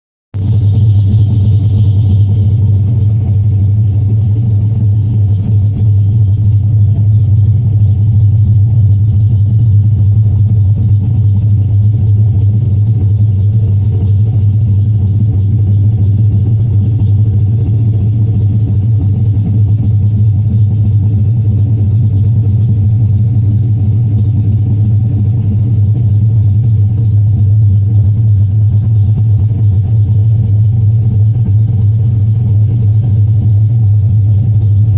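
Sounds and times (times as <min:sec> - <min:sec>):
car engine idling loudly: 0:00.3 - 0:34.9.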